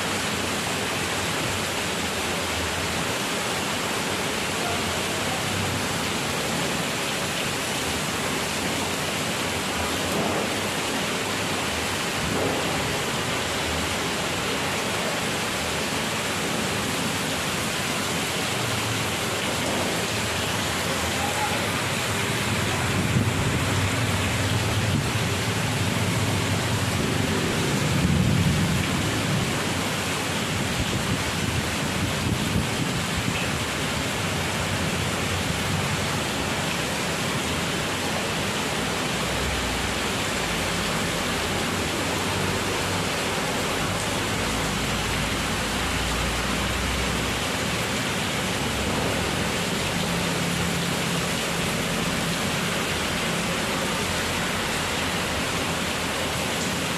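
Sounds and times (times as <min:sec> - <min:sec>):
heavy rain hissing: 0:00.0 - 0:56.9
wind: 0:00.0 - 0:56.9.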